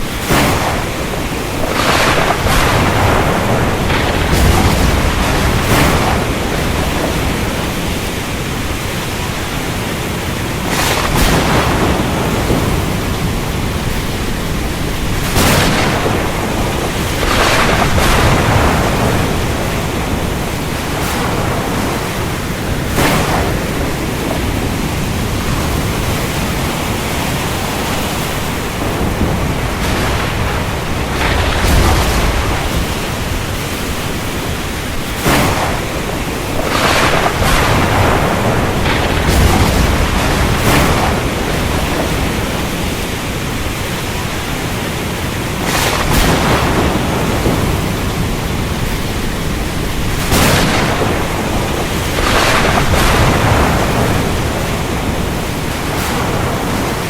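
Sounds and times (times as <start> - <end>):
heavy rain falling: 0.0 - 57.0
low thunder rumbling: 0.0 - 57.0
sharp thunder cracks: 0.0 - 57.0.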